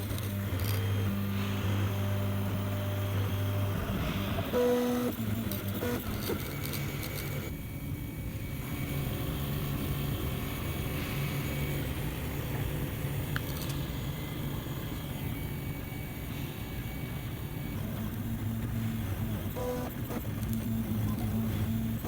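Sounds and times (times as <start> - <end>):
faint steady whine: 0.0 - 22.0
printer motors and fan whirring: 0.0 - 22.0.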